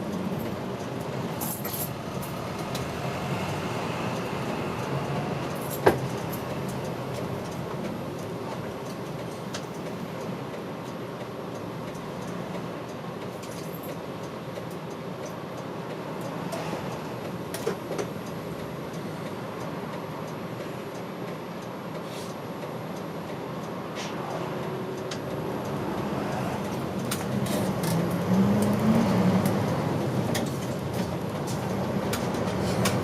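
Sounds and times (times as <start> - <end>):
bus diesel engine: 0.0 - 33.0
road noise: 0.0 - 33.0.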